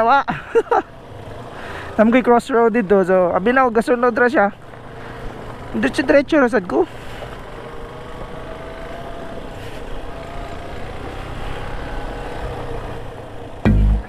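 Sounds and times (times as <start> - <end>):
motorcycle engine running: 0.8 - 14.0.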